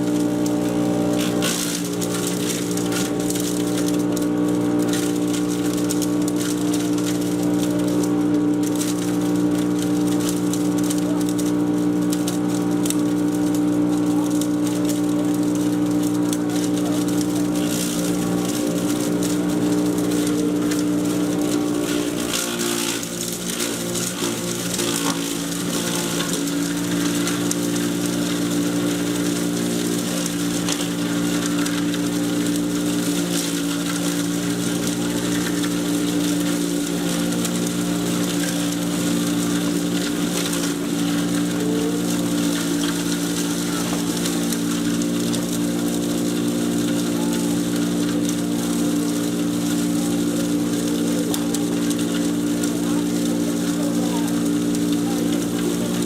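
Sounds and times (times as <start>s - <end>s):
chipper shredder motor humming: 0.0s - 56.0s.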